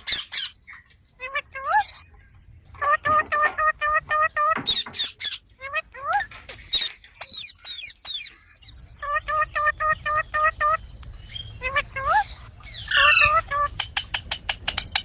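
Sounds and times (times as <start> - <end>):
parrot calling and screeching: 0.0 - 13.9.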